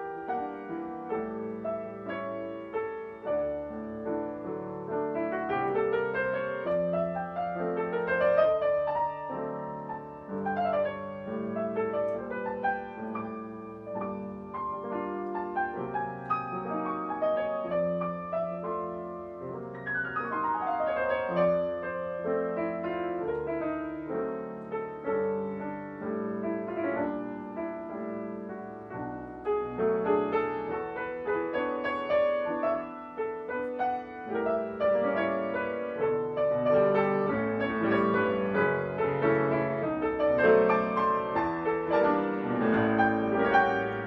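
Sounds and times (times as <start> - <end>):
solo piano music: 0.0 - 44.0.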